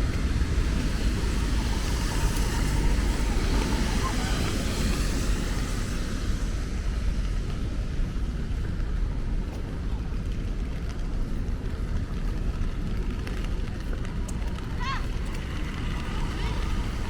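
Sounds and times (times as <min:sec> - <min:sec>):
low rumble: 0:00.0 - 0:17.0
rain falling on a street: 0:00.0 - 0:17.0.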